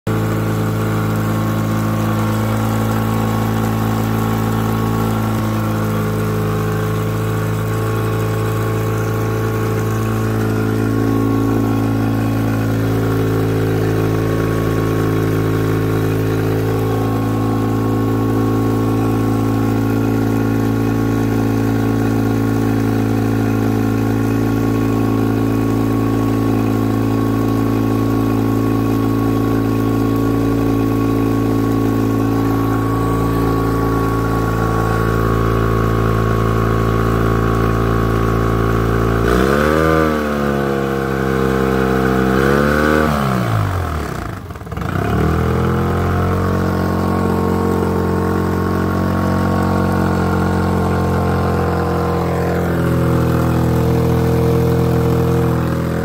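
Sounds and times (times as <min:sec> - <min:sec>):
outboard motor idling: 0:00.0 - 0:56.0.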